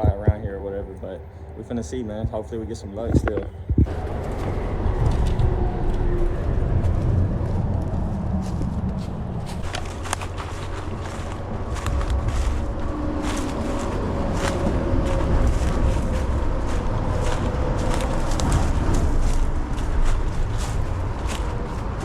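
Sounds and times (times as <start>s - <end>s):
footsteps on ground: 0.0s - 0.8s, 2.1s - 22.0s
low microphone rumble: 0.0s - 22.0s.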